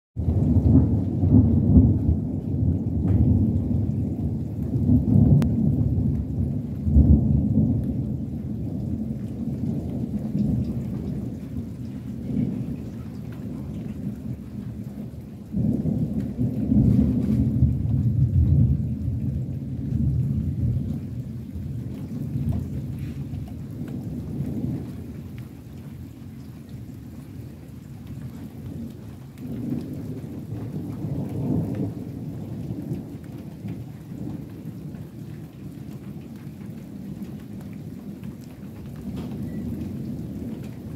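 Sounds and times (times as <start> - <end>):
rolling thunder: 0.2 - 40.9.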